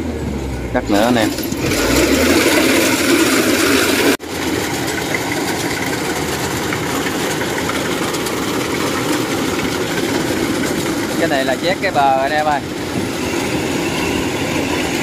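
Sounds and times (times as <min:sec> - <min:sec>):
harvester diesel engine running: 0:00.0 - 0:15.0.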